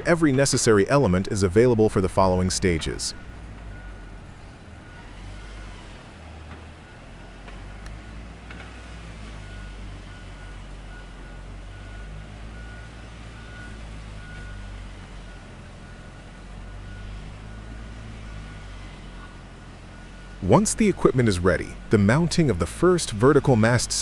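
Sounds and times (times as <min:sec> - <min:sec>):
diesel engine running: 0:00.0 - 0:24.0
reversing alarm beeping: 0:01.9 - 0:23.8.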